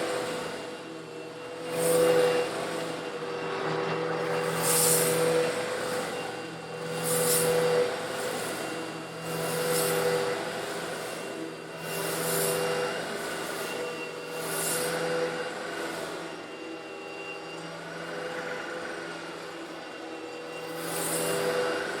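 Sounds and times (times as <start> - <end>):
vacuum cleaner motor hum: 0.0 - 22.0.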